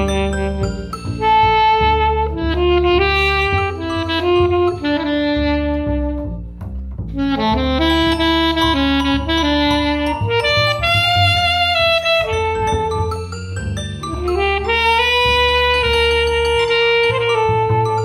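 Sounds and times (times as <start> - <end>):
double bass: 0.0 - 18.0
saxophone slow melody: 0.0 - 18.0.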